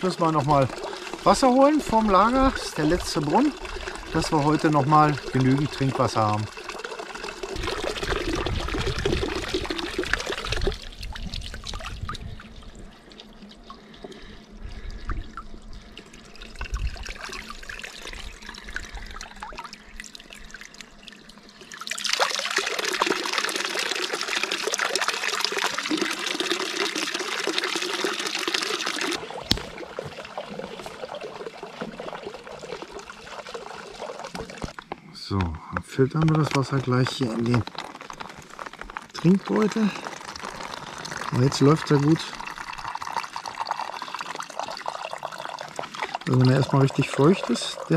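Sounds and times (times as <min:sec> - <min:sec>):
water trickling from fountain: 0:00.0 - 0:47.9.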